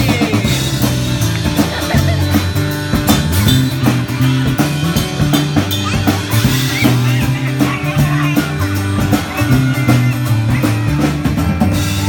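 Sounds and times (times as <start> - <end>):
pop-rock band playing: 0.0 - 12.0.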